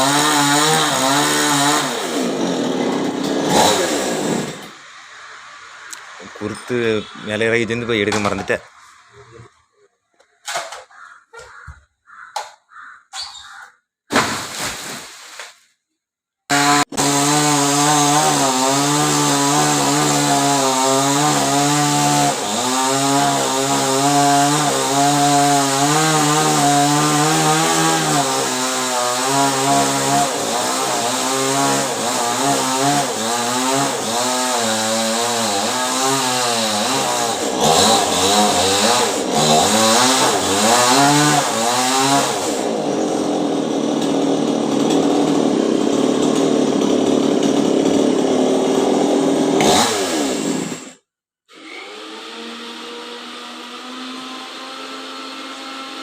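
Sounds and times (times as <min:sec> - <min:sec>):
chainsaw cutting wood: 0:00.0 - 0:06.8, 0:16.5 - 0:56.0.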